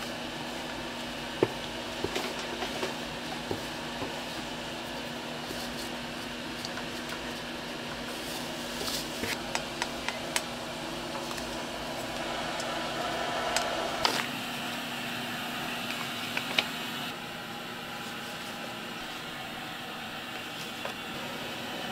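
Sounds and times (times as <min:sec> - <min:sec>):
steady machine hum: 0:00.0 - 0:21.9.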